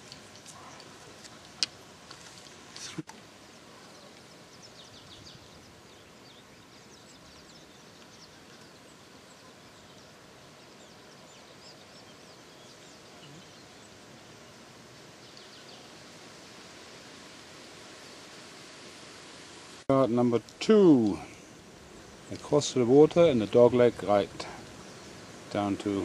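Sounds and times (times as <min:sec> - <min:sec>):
birds chirping: 0:00.0 - 0:17.2, 0:19.9 - 0:26.0
faint steady hiss: 0:00.0 - 0:26.0.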